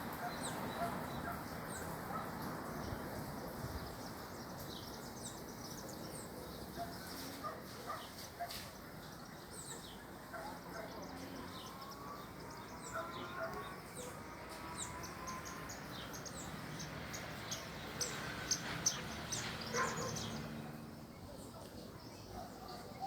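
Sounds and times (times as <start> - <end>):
birds chirping: 3.8 - 23.0.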